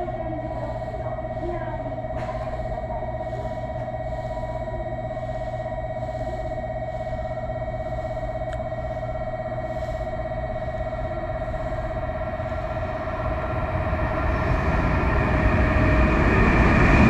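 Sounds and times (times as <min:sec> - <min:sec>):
fluttering electronic warning tone: 0:00.0 - 0:17.0.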